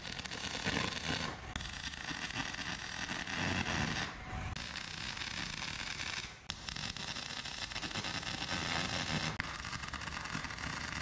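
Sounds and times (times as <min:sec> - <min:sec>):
welding arc crackling hiss: 0:00.0 - 0:11.0.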